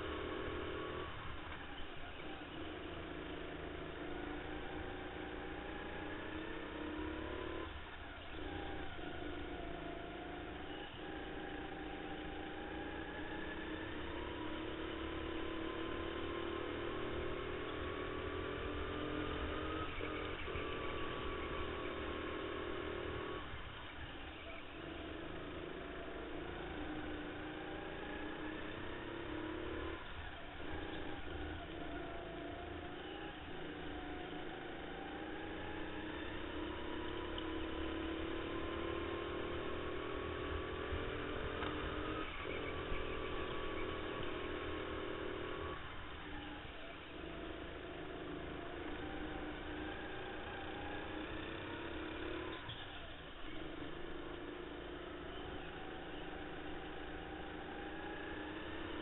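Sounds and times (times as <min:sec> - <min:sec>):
go-kart motor running: 0:00.0 - 0:59.0.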